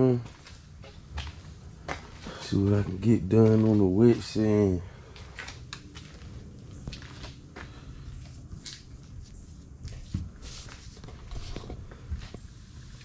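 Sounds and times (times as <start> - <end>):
quiet footsteps: 0.0 - 13.0.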